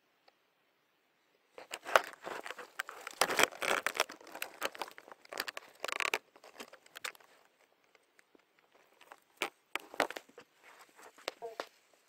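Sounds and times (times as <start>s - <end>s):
close crackling and rustling: 1.5s - 12.0s.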